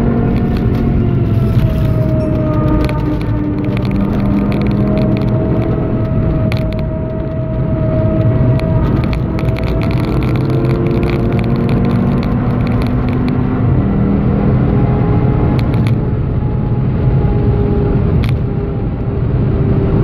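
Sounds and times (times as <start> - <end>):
car engine at full throttle: 0.0 - 20.0
wind and road noise: 0.0 - 20.0.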